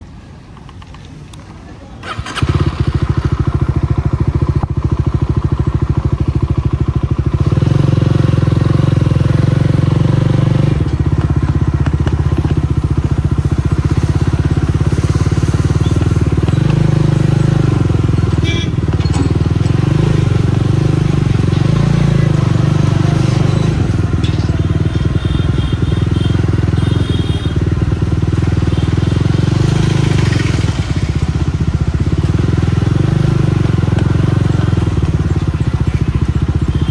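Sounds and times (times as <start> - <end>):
motorcycle engine revving: 2.0 - 36.9.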